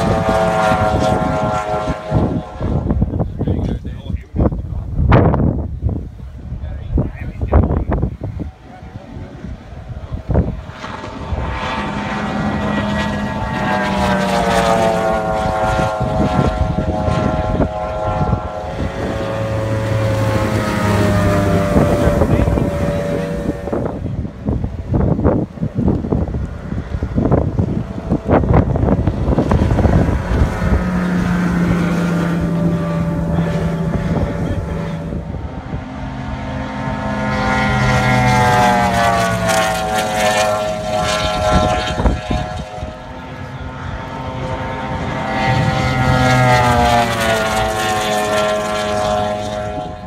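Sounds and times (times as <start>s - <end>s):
speedboat outboard motors passing: 0.0s - 50.0s.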